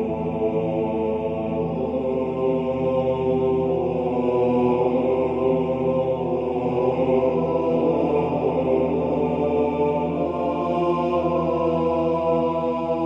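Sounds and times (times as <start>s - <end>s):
voices chanting over a drone: 0.0s - 13.0s.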